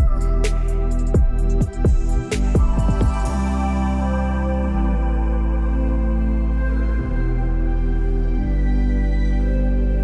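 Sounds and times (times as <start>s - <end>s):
deep bass drone: 0.0s - 10.0s.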